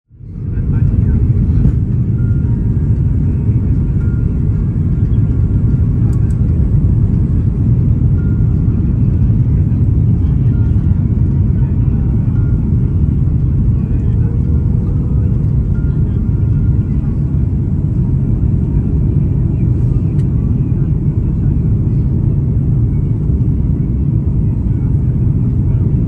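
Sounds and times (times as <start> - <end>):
airliner cabin rumble: 0.1 - 26.0.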